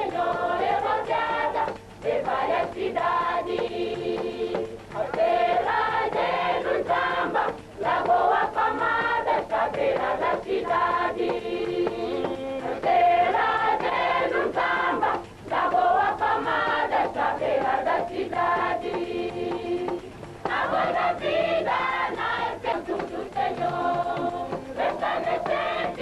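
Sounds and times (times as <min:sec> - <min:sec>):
church choir singing: 0:00.0 - 0:26.0.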